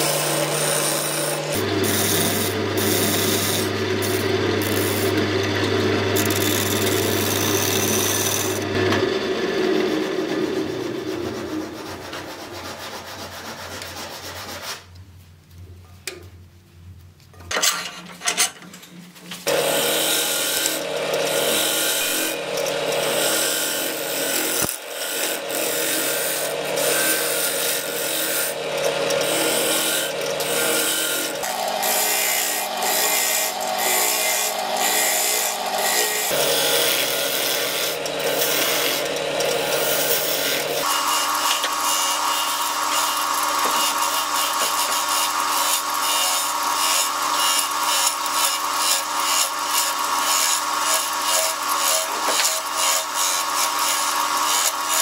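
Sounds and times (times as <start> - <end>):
chisel scraping spinning wood: 0.0 - 9.0, 19.5 - 55.0
wood lathe humming: 0.0 - 13.0, 19.5 - 55.0.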